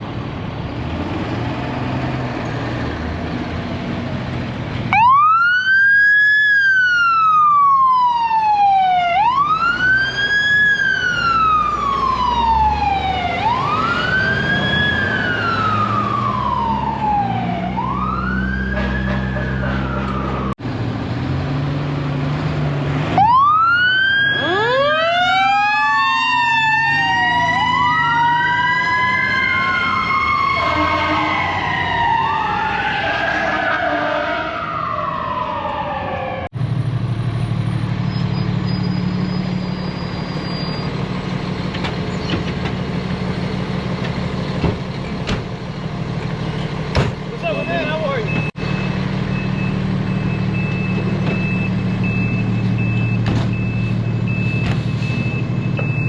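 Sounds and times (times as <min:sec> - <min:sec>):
truck engine rumble: 0:00.0 - 0:56.0
fire truck sirens wailing: 0:04.8 - 0:20.6, 0:22.8 - 0:56.0.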